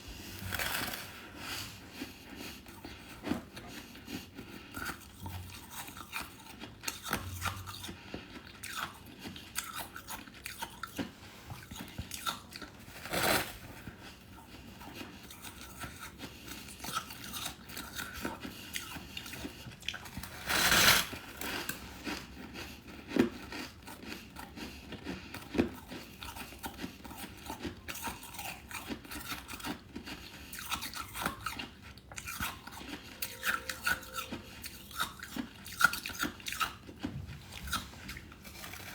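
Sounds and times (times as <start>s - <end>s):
frost being chewed crunchily: 0.0s - 38.9s.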